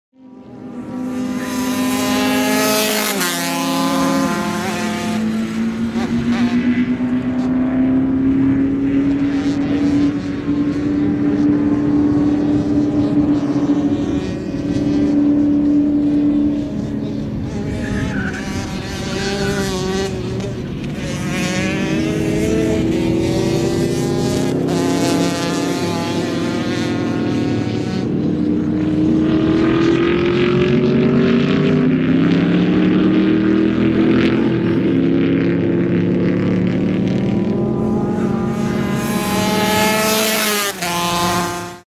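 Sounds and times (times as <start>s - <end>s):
kart engine revving: 0.3s - 41.8s.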